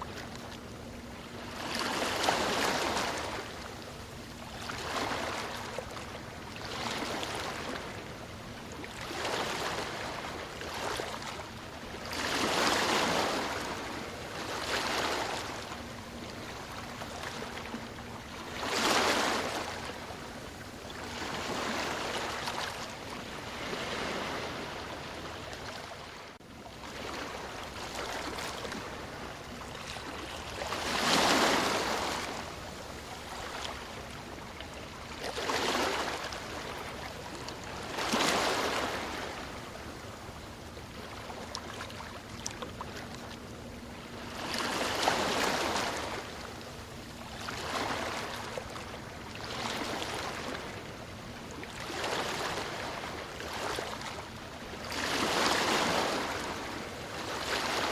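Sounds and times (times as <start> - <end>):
ocean waves washing on shore: 0.0 - 57.9.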